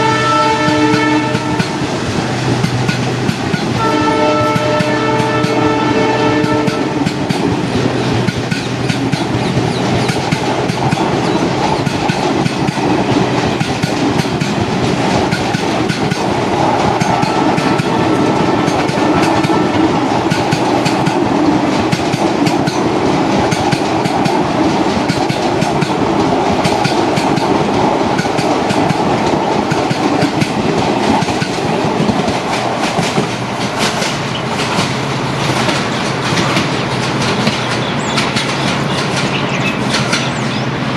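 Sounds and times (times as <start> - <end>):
train rumble: 0.0 - 40.9
wheels clattering over rail joints: 6.4 - 40.6.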